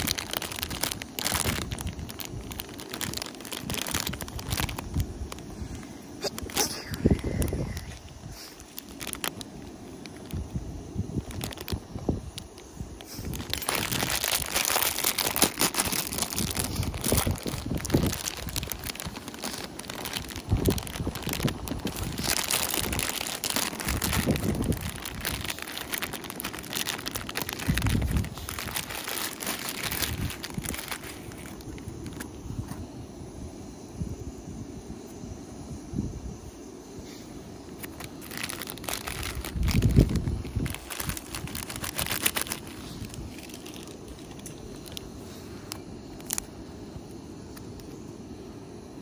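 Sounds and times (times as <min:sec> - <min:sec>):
plastic packet crinkling: 0:00.0 - 0:32.4, 0:37.8 - 0:46.5.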